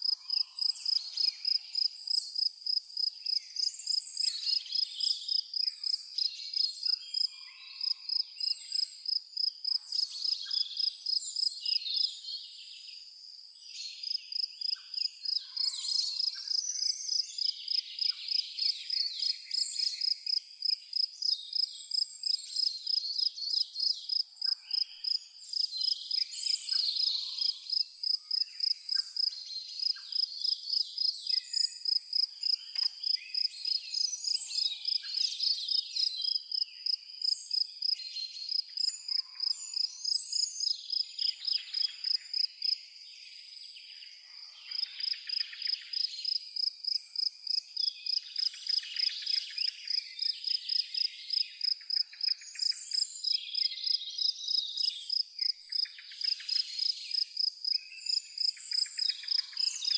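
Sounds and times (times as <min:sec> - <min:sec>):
cricket chirping: 0:00.0 - 0:43.8, 0:44.7 - 0:59.9.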